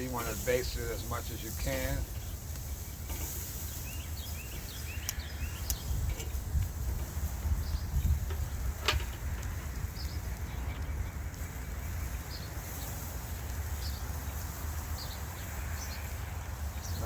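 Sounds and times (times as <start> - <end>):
small birds chirping: 0.0 - 17.0
wind rumble on microphone: 0.0 - 17.0.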